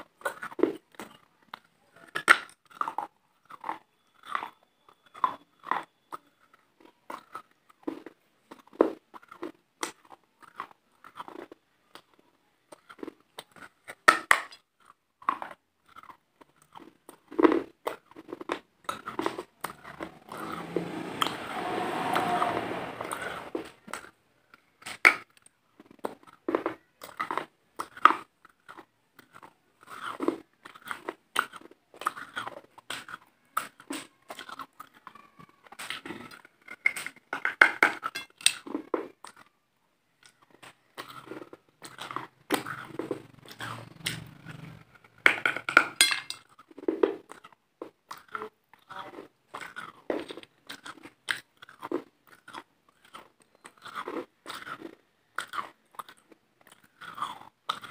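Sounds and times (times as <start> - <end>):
crunching and chewing food: 0.0 - 22.6, 23.6 - 57.9.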